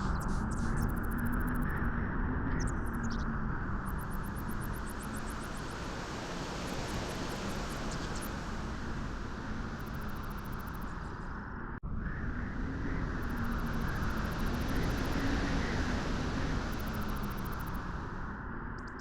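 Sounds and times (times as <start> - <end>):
wind rushing on a beach: 3.3 - 18.8.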